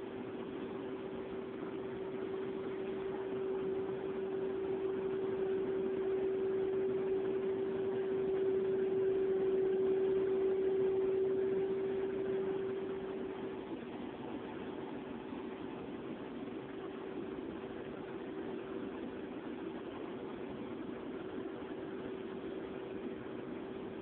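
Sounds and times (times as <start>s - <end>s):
mechanical hum with steady tone: 0.0s - 24.0s.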